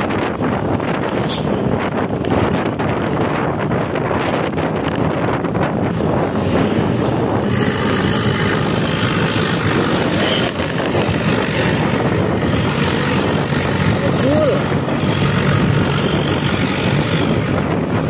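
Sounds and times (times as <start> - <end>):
vehicle engine and road noise: 0.0 - 18.0
wind on microphone: 0.0 - 18.0.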